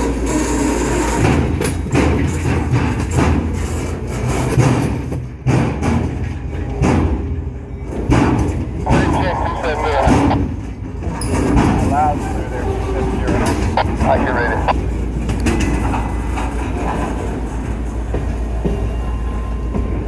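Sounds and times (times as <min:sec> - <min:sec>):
train wheels rumbling on rail: 0:00.0 - 0:20.0
wheels clunking over rail joints: 0:00.0 - 0:20.0.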